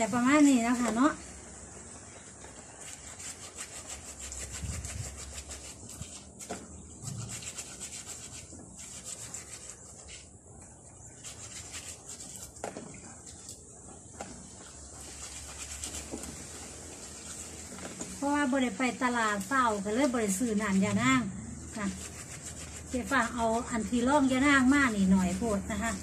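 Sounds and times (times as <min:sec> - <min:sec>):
hands kneading leaves in water: 0:00.0 - 0:26.0.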